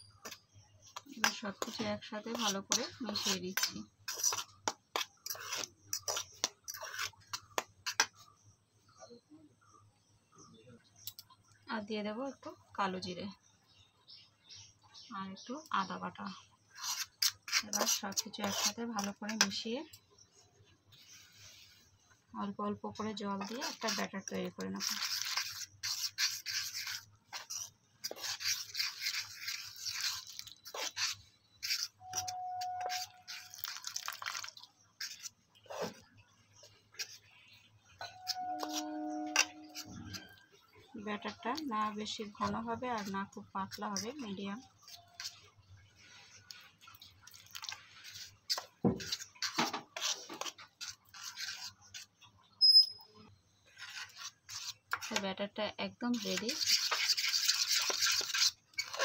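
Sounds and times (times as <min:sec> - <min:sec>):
fork scraping batter in metal bowl: 0:00.0 - 0:08.4, 0:15.7 - 0:20.0, 0:22.6 - 0:53.0, 0:53.7 - 0:59.0.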